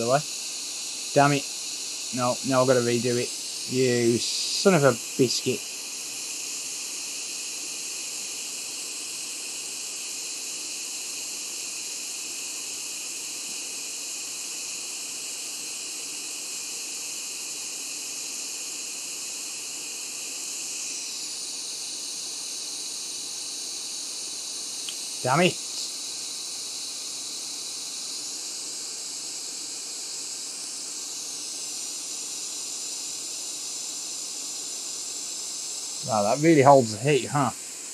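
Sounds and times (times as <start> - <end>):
hot-air blower hiss: 0.0 - 37.9.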